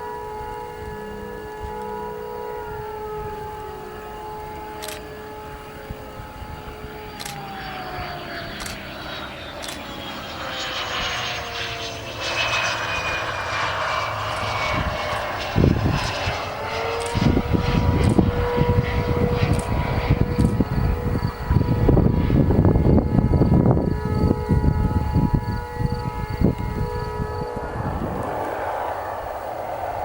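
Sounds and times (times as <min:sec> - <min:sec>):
heavy low jet rumble: 0:00.0 - 0:30.0
jet engine whine: 0:00.0 - 0:30.0.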